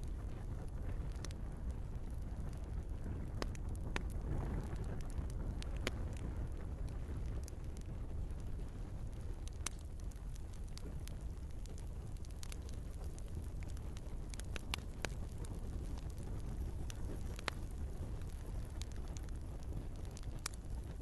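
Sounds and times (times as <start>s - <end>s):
log fire crackling and popping: 0.0s - 21.0s.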